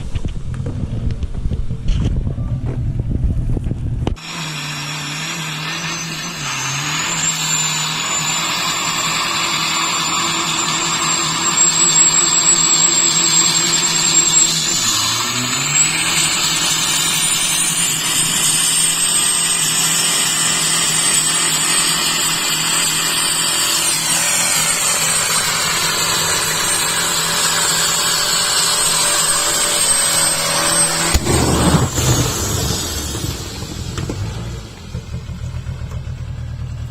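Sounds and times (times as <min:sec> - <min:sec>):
diesel engine at high revs: 0:02.6 - 0:36.9.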